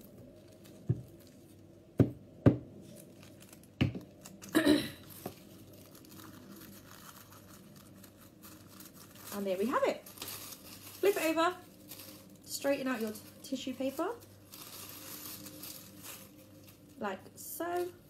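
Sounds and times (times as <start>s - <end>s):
tissue paper crinkling: 0.0s - 1.7s, 2.8s - 18.0s.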